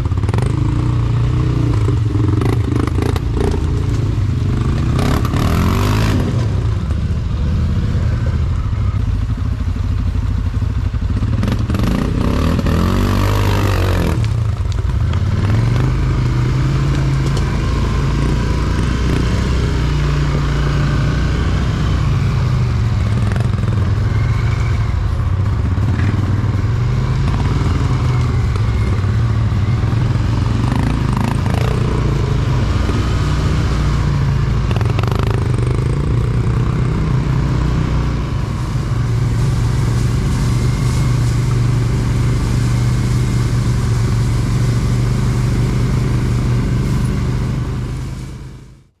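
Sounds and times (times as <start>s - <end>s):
quad bike engine running: 0.0s - 49.0s.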